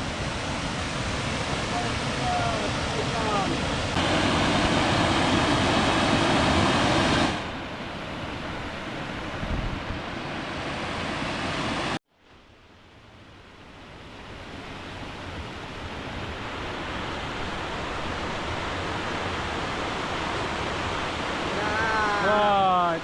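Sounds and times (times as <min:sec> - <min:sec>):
flowing water rushing: 0:00.0 - 0:12.0, 0:12.9 - 0:23.0.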